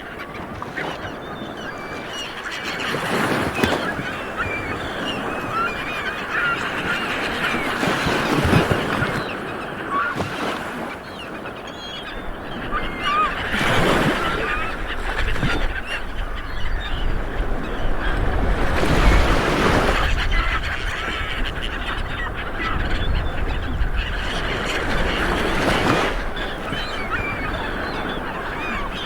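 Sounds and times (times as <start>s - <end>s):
bird calls: 0.0s - 29.0s
waves breaking on a beach: 0.0s - 29.0s.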